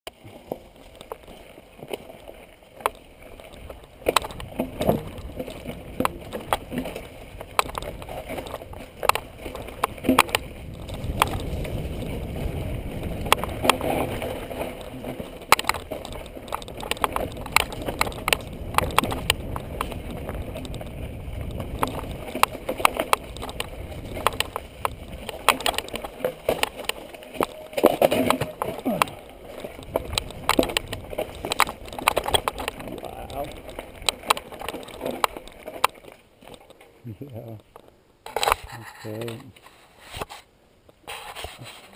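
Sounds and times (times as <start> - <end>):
wind: 0.0 - 41.9
bike rattling over stones: 0.1 - 41.9
bike tyres rumbling: 0.1 - 41.9.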